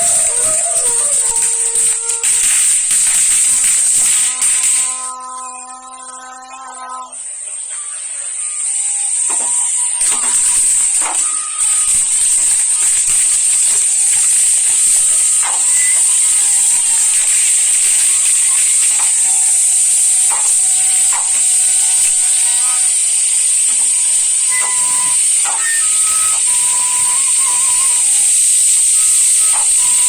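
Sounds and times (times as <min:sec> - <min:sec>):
fireworks spraying sparks hissing: 0:00.0 - 0:05.2, 0:07.3 - 0:30.0
thin whistling tones: 0:04.0 - 0:30.0.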